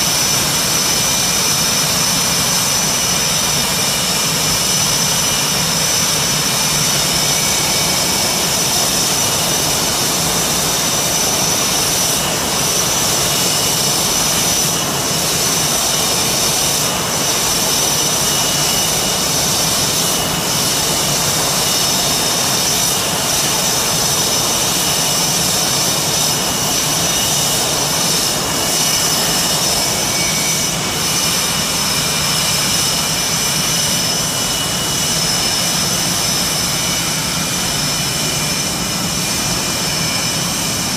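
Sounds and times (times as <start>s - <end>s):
jet engines idling: 0.0s - 40.9s.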